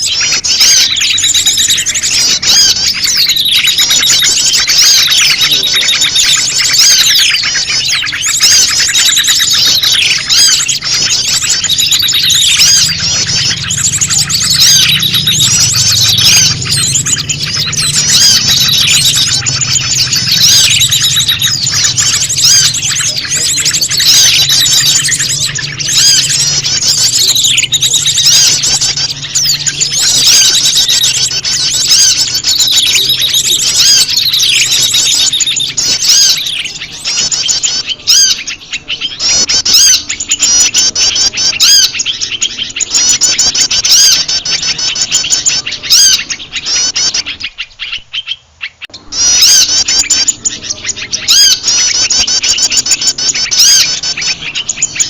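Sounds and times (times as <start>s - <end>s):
small birds chirping and trilling: 0.0s - 55.0s.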